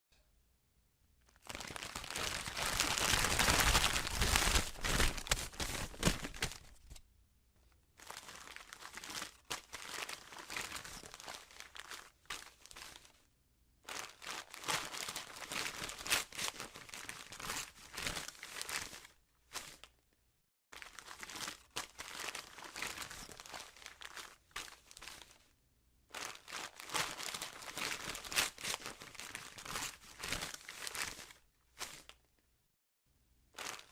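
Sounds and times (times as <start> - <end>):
wrapping paper tearing and crinkling: 1.4 - 7.0, 8.0 - 13.2, 13.9 - 19.9, 20.8 - 25.4, 26.1 - 32.2, 33.6 - 33.9.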